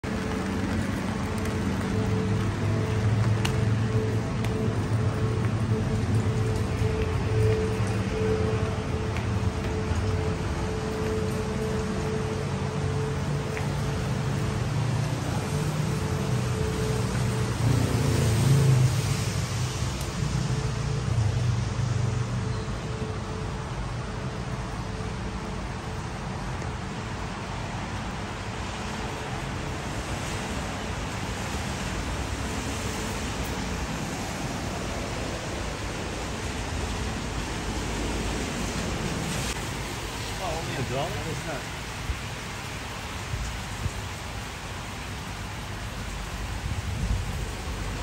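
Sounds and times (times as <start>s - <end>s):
falling water rushing: 0.0s - 48.0s.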